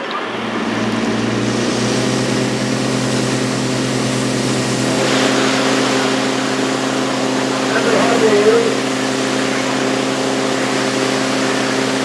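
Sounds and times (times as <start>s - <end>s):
fire engine pump running: 0.0s - 12.0s
hiss of water spray: 1.6s - 12.0s.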